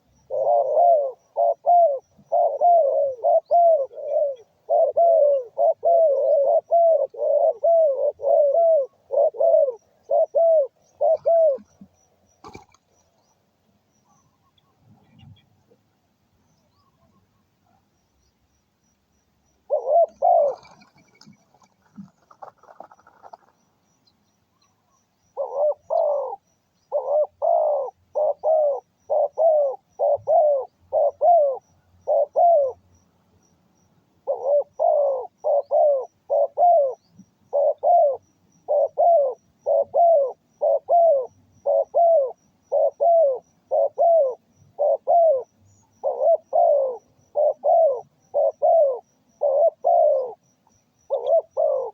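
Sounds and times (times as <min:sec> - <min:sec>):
dove cooing: 0:00.0 - 0:12.8, 0:19.7 - 0:23.6, 0:25.4 - 0:32.8, 0:34.2 - 0:51.9.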